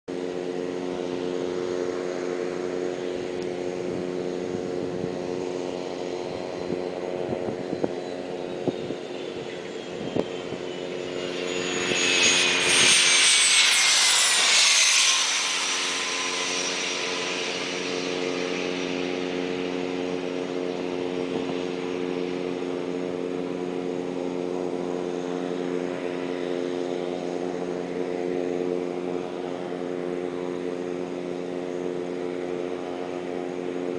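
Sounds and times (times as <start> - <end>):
jet engines whining: 0.1 - 33.9
steady low hum: 0.1 - 33.9.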